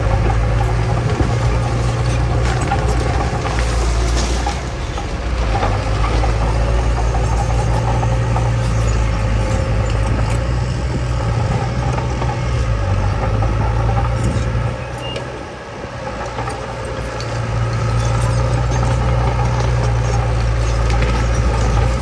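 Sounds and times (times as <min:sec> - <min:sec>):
diesel machinery engine running: 0:00.0 - 0:22.0.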